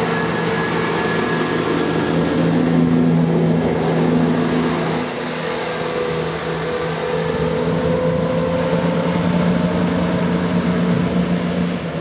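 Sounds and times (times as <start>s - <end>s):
diesel train engines droning: 0.0s - 12.0s
wheel and rail rumble: 0.0s - 12.0s.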